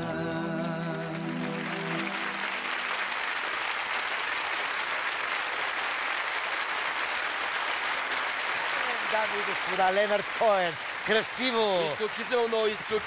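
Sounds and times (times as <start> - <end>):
studio audience applauding: 0.8 - 13.0.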